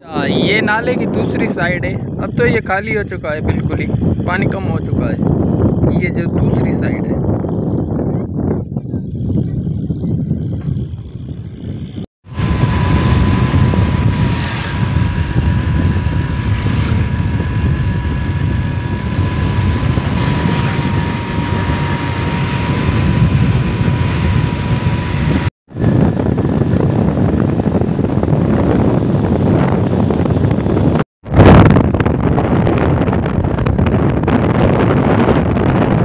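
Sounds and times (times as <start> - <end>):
vehicle engine whine: 0.0 - 36.0
wind rumble on microphone: 0.0 - 36.0.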